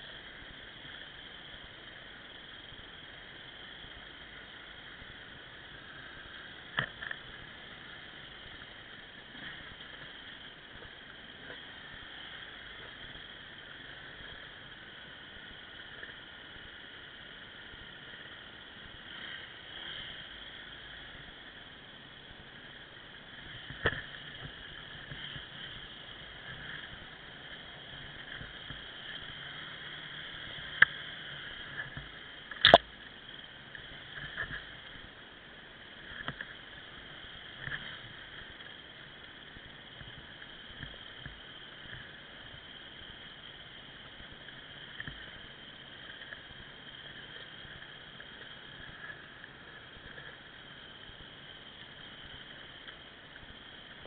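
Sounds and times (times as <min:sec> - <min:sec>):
off-road motorcycle riding: 0:00.0 - 0:54.0.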